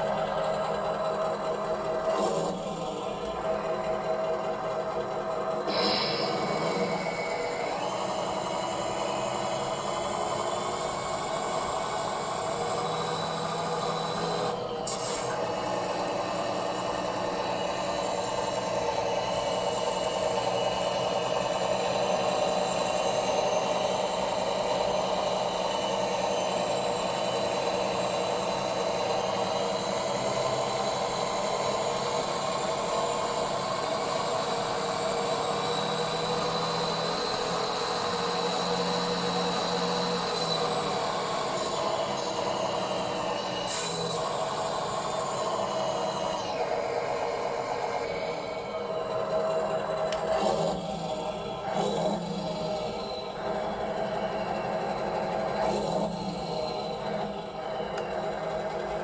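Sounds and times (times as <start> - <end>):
model truck motor whine with rattle: 0.0 - 59.0.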